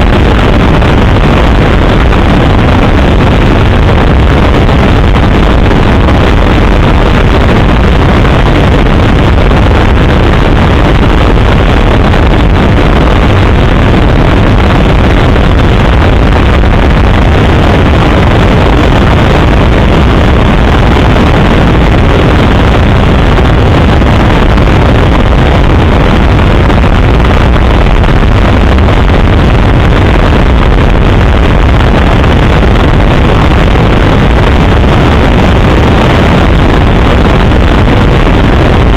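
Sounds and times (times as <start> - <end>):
helicopter rotor and engine rumble: 0.0 - 38.9.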